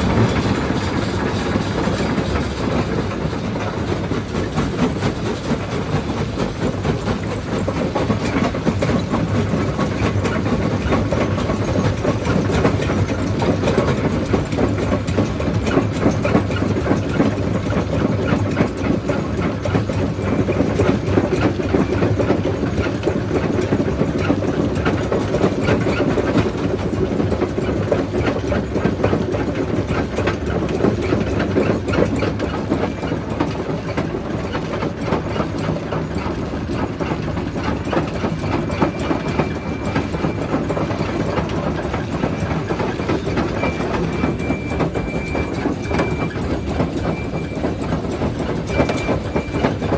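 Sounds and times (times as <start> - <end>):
rock crusher running: 0.0 - 49.9.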